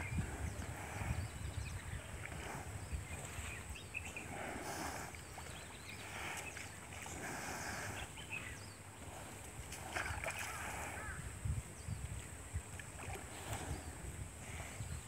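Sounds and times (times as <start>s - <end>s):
water sloshing and lapping: 0.0s - 11.3s, 12.0s - 14.6s.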